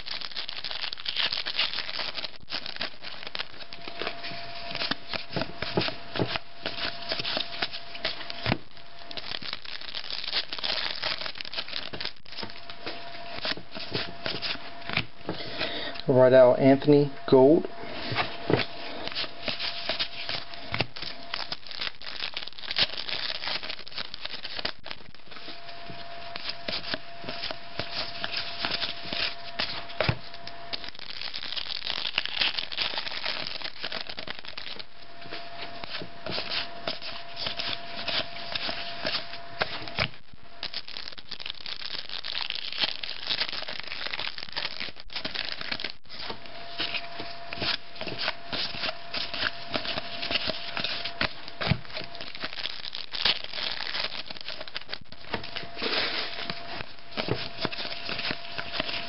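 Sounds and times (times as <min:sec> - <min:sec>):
card wrappers crinkling and tearing: 0:00.0 - 0:15.8, 0:18.3 - 0:59.0
faint steady hum: 0:00.0 - 0:59.0.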